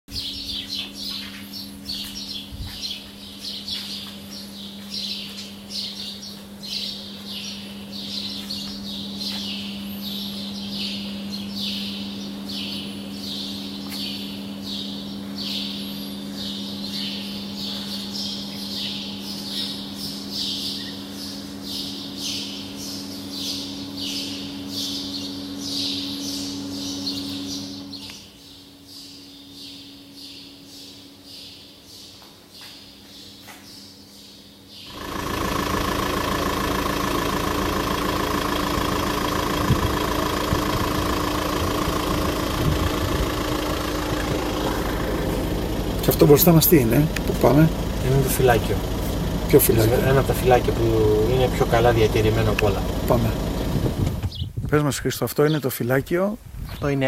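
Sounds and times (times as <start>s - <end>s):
birds chirping rapidly: 0.1s - 57.0s
steady low hum: 0.1s - 57.0s.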